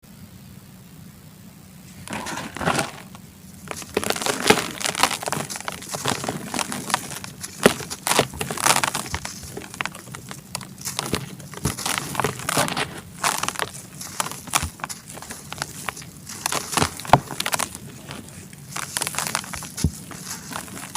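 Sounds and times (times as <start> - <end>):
charcoal crunching and crackling: 1.9 - 20.9.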